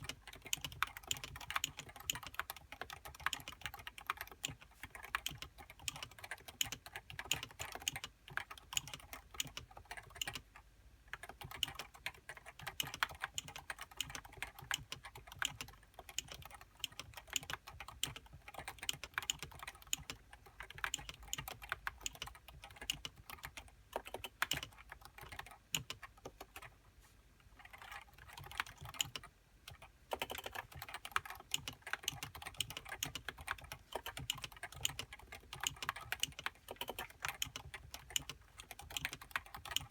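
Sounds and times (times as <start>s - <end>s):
fast typing on keyboard: 0.0s - 26.8s, 27.6s - 39.9s.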